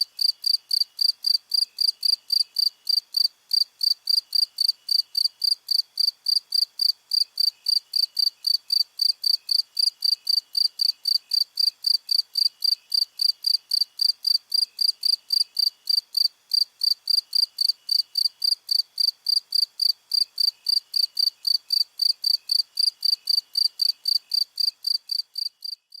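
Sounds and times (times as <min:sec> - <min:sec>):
loud cricket chirping: 0:00.0 - 0:25.8
fainter lower cricket chirping: 0:00.0 - 0:26.0.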